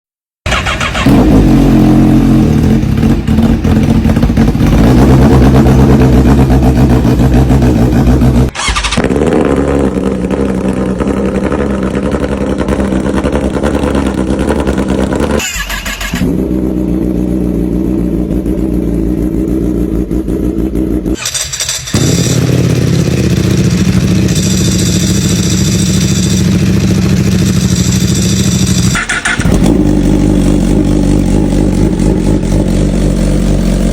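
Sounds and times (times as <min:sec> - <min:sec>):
motorcycle engines idling: 0:00.5 - 0:33.9.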